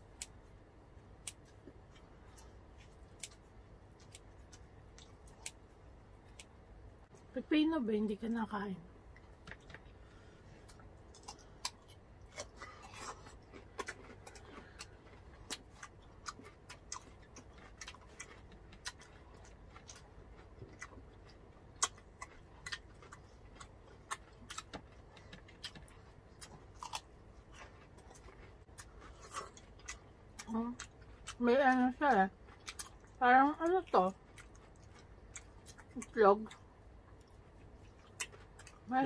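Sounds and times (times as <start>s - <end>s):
chewing and crunching food: 0.0s - 7.3s, 9.1s - 39.0s.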